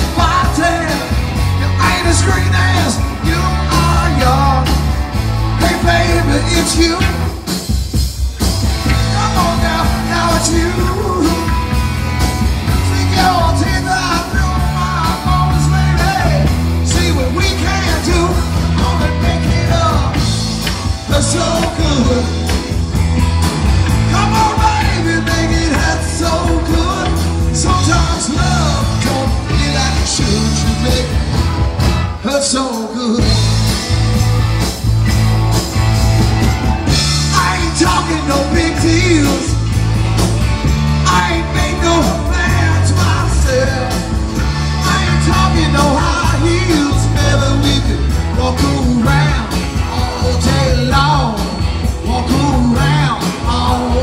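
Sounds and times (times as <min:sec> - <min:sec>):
person singing: 0:00.0 - 0:07.6, 0:08.8 - 0:11.9, 0:12.6 - 0:22.8, 0:24.0 - 0:31.5, 0:36.8 - 0:39.7, 0:40.9 - 0:54.0
rock band playing: 0:00.0 - 0:54.0.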